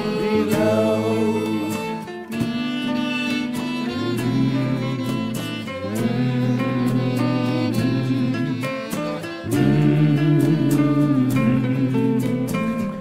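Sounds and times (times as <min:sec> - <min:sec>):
instrumental music with sustained chords: 0:00.0 - 0:13.0.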